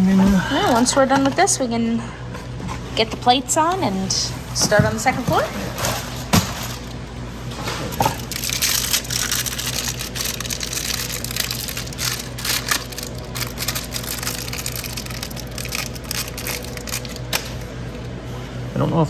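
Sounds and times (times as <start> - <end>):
wires crackling handling noise: 2.4 - 18.6.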